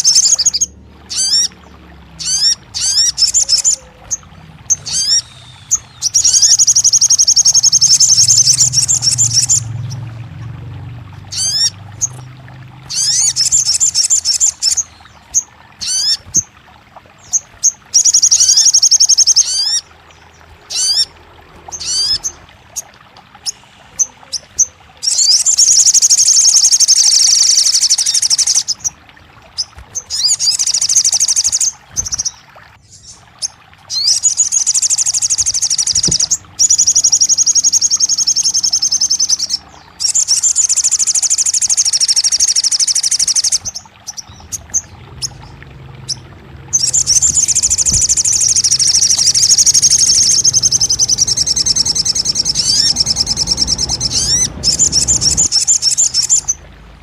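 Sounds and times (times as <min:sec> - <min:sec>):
bird trilling: 0:00.0 - 0:01.6, 0:02.2 - 0:10.5, 0:11.3 - 0:16.4, 0:17.3 - 0:19.9, 0:20.7 - 0:28.9, 0:29.6 - 0:32.4, 0:33.0 - 0:56.6.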